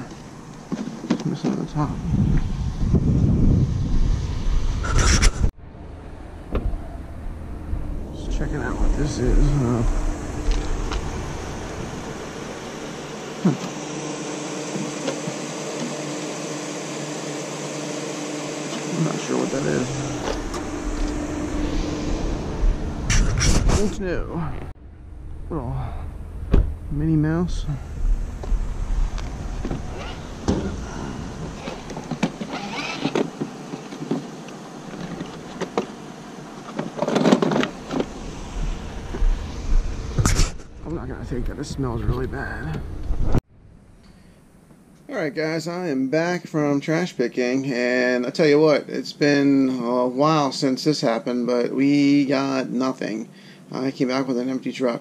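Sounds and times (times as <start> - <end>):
mechanical hum: 0.0 - 55.0.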